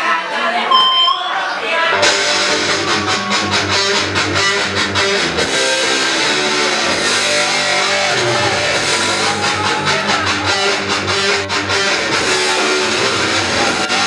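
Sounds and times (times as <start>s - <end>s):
bass guitar: 1.9s - 14.0s
distorted electric guitars: 1.9s - 14.0s.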